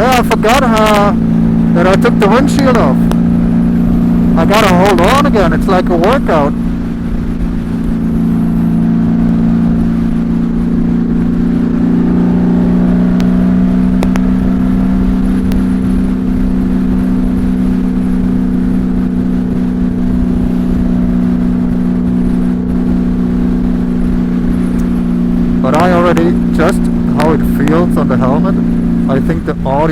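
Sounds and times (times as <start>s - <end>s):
motorcycle engine cruising: 0.0s - 29.9s.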